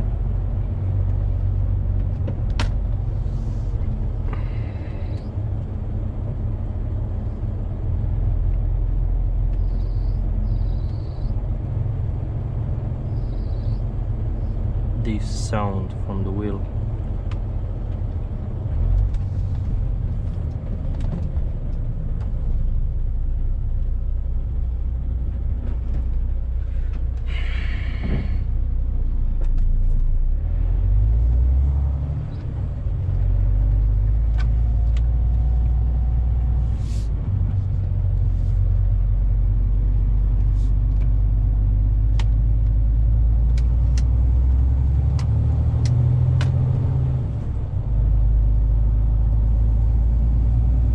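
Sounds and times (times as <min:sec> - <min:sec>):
truck engine and tyres rumbling: 0:00.0 - 0:50.9.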